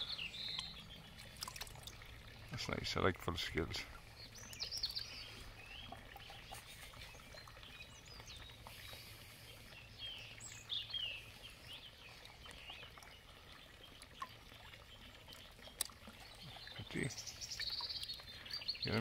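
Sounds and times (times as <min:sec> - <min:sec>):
birds chirping and twittering: 0:00.0 - 0:19.0.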